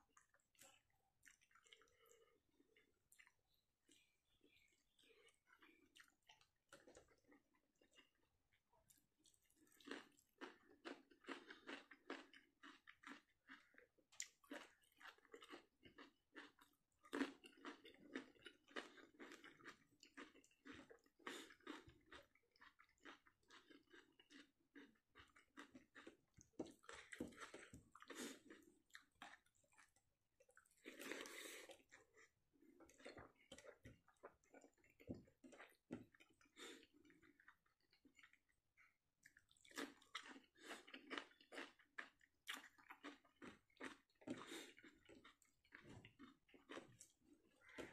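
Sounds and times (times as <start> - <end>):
chewing with wet clicks: 0.0 - 47.9.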